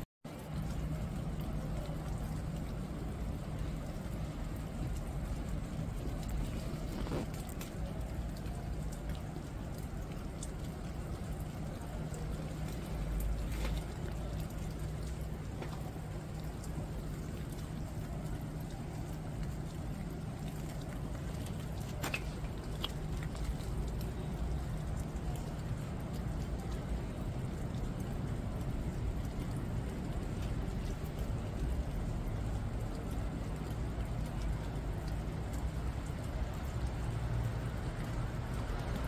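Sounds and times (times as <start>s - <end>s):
rain falling on leaves: 0.0s - 39.0s.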